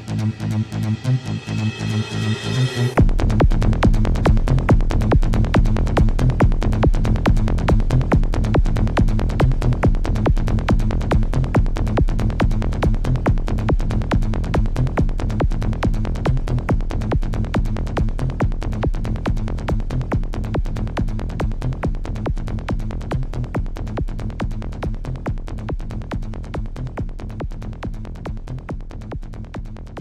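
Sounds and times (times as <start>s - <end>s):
electronic dance music: 0.0s - 30.0s.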